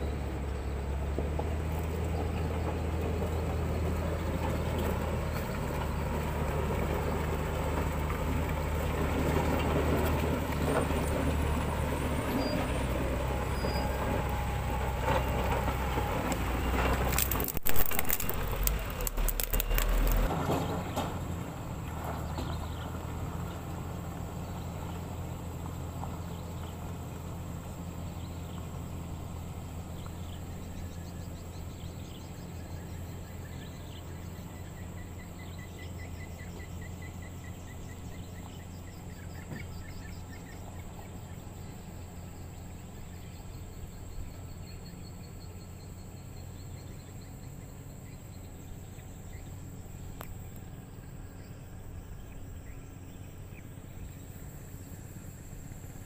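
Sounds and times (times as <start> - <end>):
motor grader diesel engine drone: 0.0 - 56.0.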